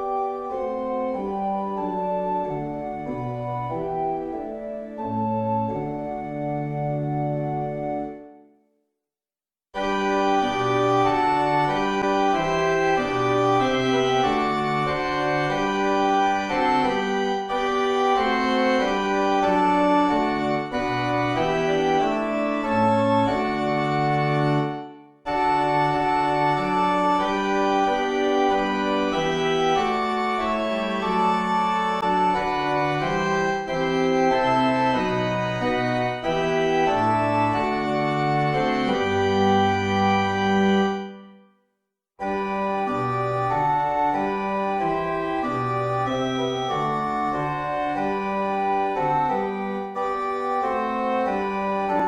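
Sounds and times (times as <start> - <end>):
church organ playing chords: 0.0 - 8.4, 9.8 - 41.4, 42.2 - 52.0.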